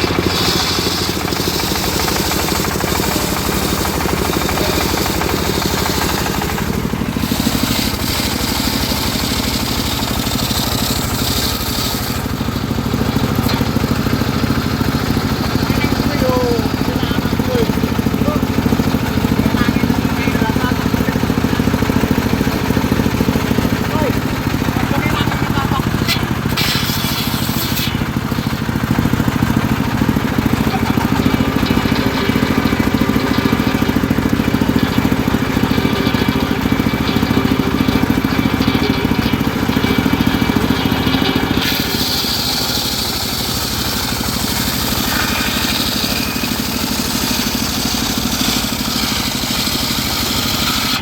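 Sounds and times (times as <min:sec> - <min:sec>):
circular saw running: 0:00.0 - 0:51.0
sawmill engine drone: 0:00.0 - 0:51.0.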